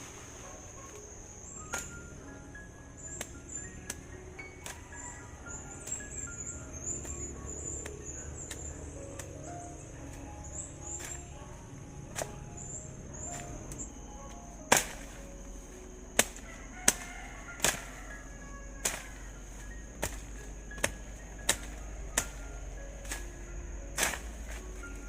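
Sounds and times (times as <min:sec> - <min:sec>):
blade swishing through weeds: 0:00.0 - 0:25.0.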